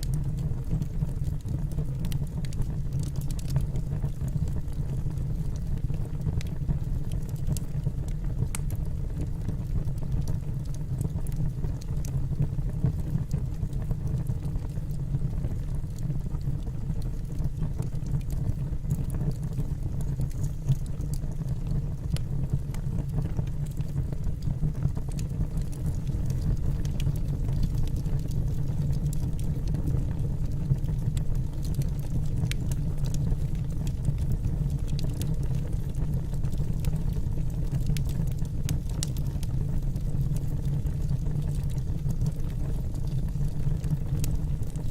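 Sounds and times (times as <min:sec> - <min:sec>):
fire low rumble: 0:00.0 - 0:44.9
logs crackling and popping: 0:00.0 - 0:44.9.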